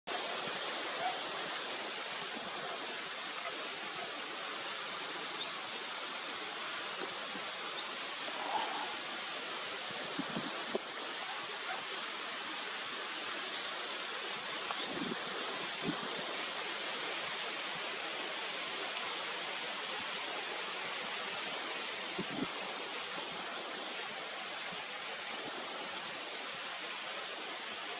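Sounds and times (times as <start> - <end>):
steady outdoor hiss: 0.1 - 27.9.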